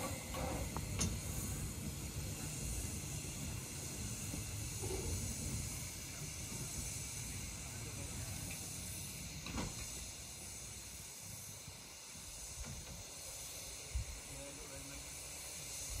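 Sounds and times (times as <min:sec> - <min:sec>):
steam hissing from locomotive: 0:00.0 - 0:16.0.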